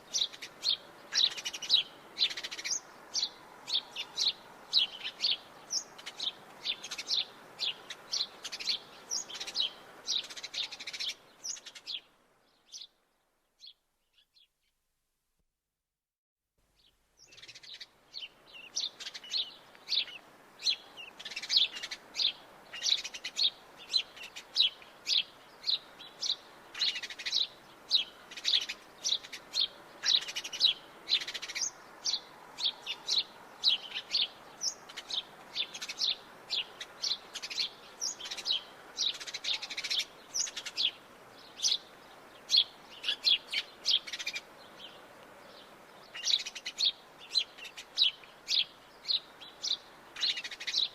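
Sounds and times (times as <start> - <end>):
sparrows chirping: 0.0 - 14.5, 16.8 - 50.9.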